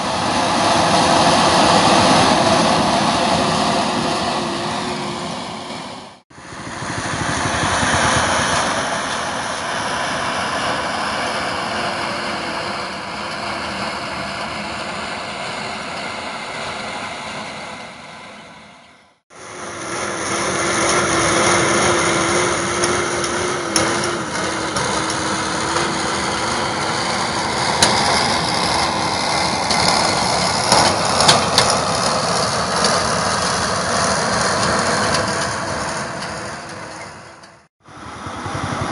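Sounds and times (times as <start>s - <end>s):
diesel engine running: 0.0s - 38.9s
steady whine: 0.0s - 38.9s.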